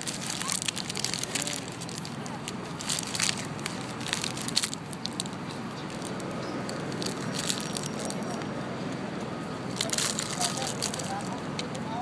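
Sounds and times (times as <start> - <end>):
squirrel gnawing a nut: 0.0 - 8.5, 9.7 - 11.8.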